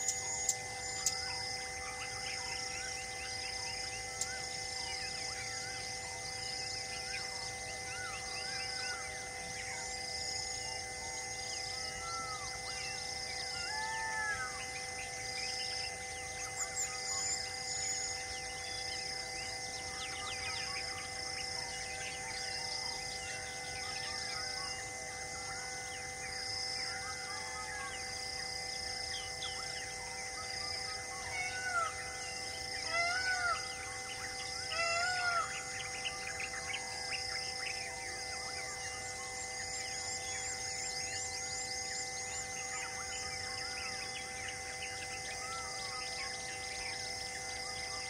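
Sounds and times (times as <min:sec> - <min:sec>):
birds calling and singing: 0:00.0 - 0:10.8, 0:11.4 - 0:48.0.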